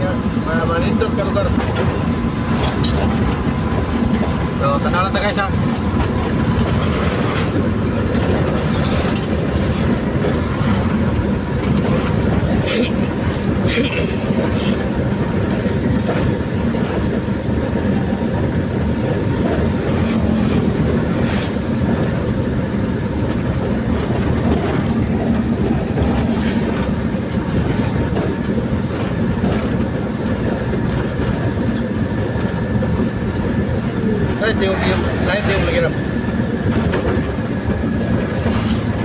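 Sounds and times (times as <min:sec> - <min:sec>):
vehicle rumble on highway: 0:00.0 - 0:39.0.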